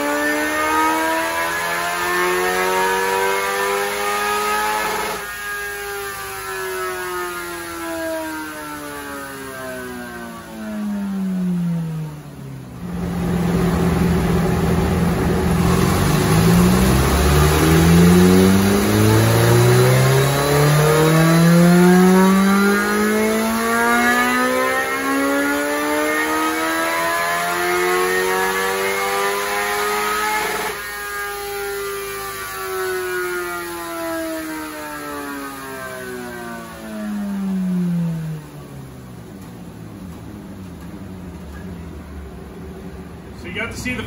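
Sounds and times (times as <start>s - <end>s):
motorcycle engine revving: 0.0s - 43.7s.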